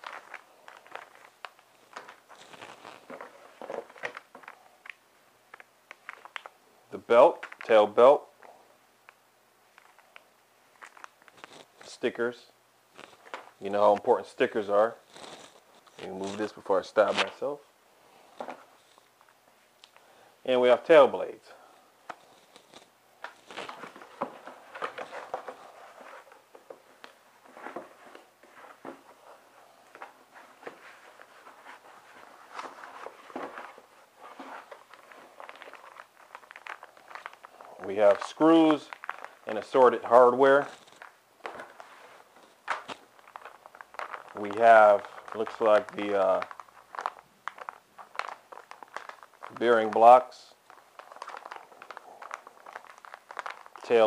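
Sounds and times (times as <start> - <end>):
packaging rustling and crinkling: 0.0 - 8.6, 9.7 - 12.2, 12.9 - 17.5, 21.6 - 54.0.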